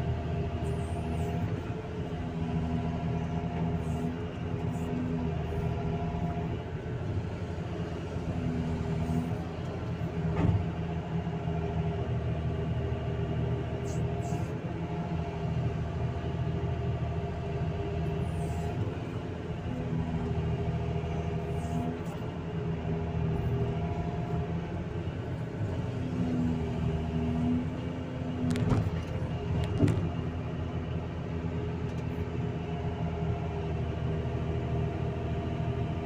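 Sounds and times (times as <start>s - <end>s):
excavator engine and hydraulics: 0.0s - 36.0s.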